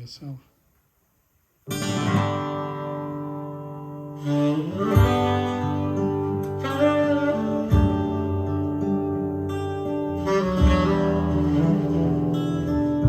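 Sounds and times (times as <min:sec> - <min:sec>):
strummed guitar chords: 0:01.7 - 0:13.0.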